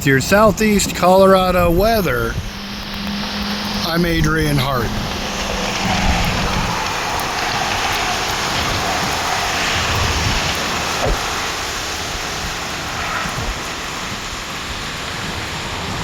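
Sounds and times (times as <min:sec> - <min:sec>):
gusty wind on microphone: 0:00.0 - 0:16.0.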